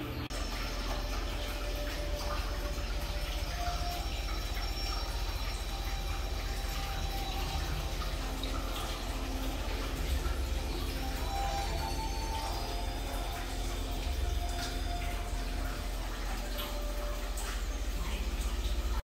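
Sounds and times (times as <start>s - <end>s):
low steady hum: 0.0s - 19.0s
water running and dripping: 0.0s - 19.0s.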